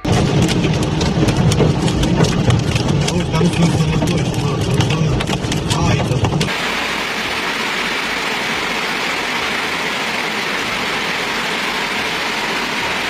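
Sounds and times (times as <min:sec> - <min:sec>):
heavy rain and hail: 0:00.0 - 0:13.0.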